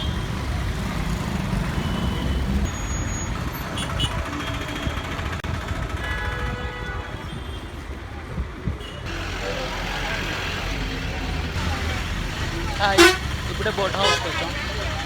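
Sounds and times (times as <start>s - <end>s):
traffic: 0.0s - 15.0s
vehicle road rumble: 0.0s - 15.0s.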